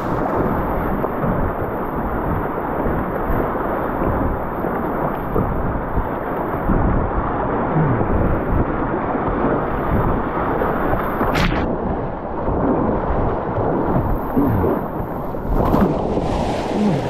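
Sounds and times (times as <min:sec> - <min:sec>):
rapids rushing and splashing: 0:00.0 - 0:17.0
waves washing over kayak bow: 0:00.0 - 0:17.0.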